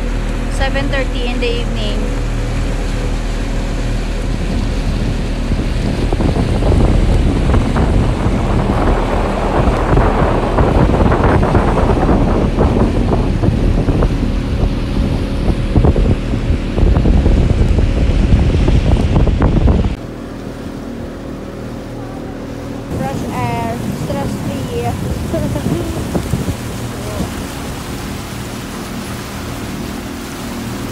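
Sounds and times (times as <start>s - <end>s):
outboard motor running: 0.0s - 30.9s
water rushing against hull: 0.0s - 30.9s
wind buffeting microphone: 0.0s - 30.9s.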